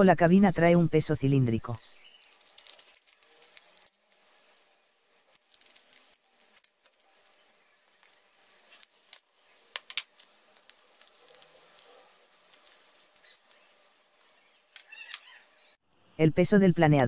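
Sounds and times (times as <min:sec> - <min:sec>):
rubbing and rustling on foam: 0:01.8 - 0:15.8.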